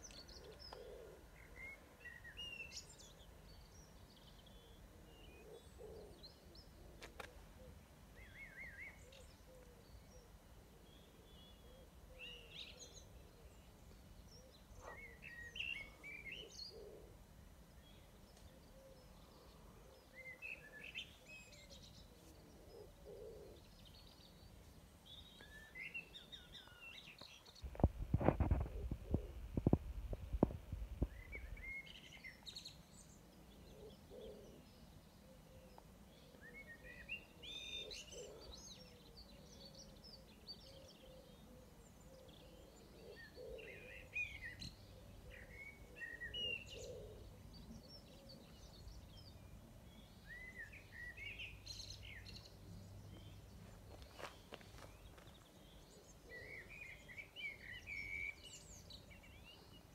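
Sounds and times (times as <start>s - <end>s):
birds singing and chirping: 0.0s - 17.2s, 17.8s - 59.9s.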